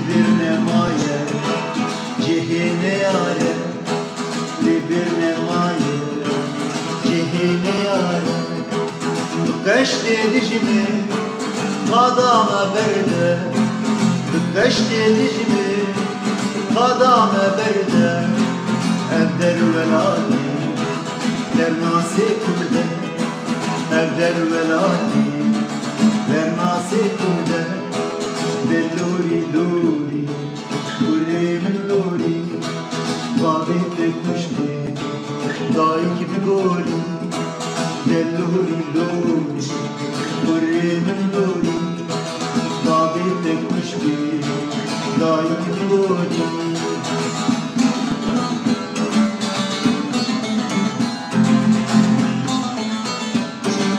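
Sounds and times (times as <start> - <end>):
person singing: 0.0 - 53.9
plucked guitar: 0.0 - 53.9.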